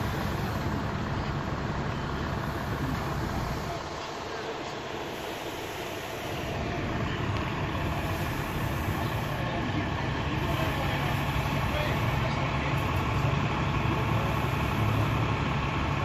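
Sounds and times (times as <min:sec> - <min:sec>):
vehicle engines and traffic rumble: 0:00.0 - 0:16.0.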